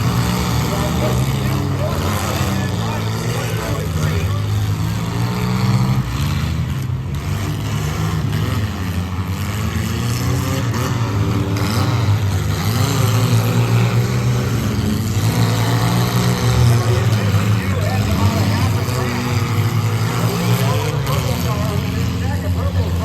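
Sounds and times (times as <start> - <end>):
race truck engines revving: 0.0 - 23.0.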